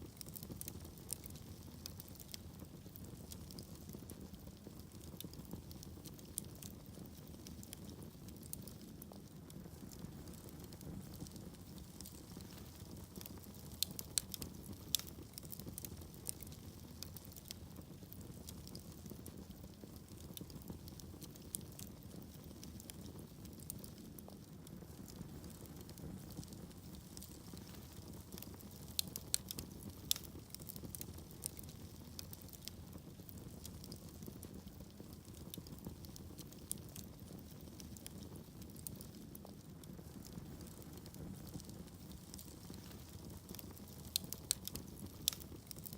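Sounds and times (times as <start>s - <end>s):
fire flames rumbling: 0.0s - 45.9s
logs crackling and popping: 0.0s - 45.9s.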